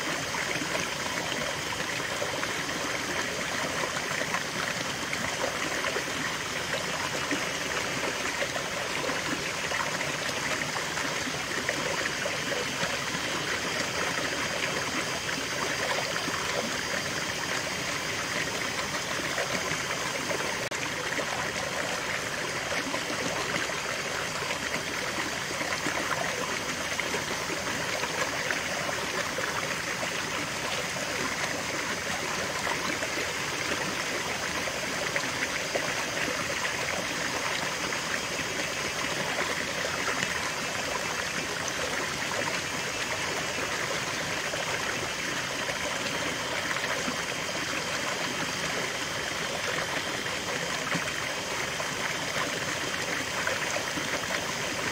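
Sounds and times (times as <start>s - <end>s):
water cascading over stones: 0.0s - 54.9s.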